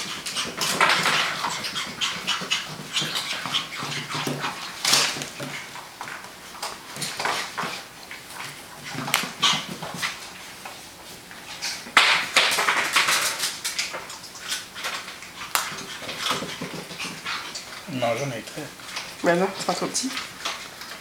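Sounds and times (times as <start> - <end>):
puppy claws clicking on floor: 0.0 - 10.8, 11.4 - 21.0.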